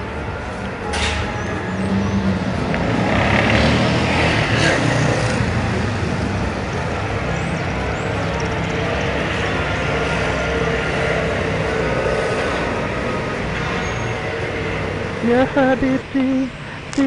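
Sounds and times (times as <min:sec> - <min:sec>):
street traffic noise: 0:00.0 - 0:17.0
vehicle passing: 0:00.0 - 0:17.0.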